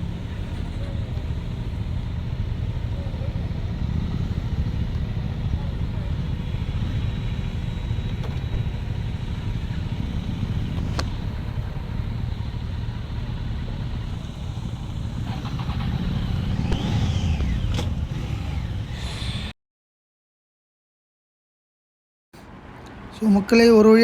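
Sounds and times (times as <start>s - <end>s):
vehicle engine and road rumble: 0.0s - 19.5s, 22.4s - 24.0s.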